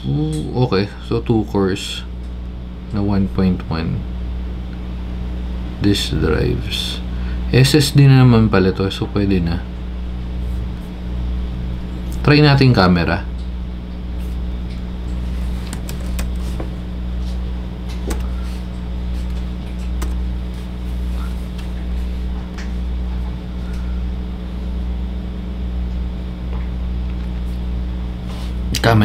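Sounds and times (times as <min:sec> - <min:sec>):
low hum of machinery: 0:00.0 - 0:29.0.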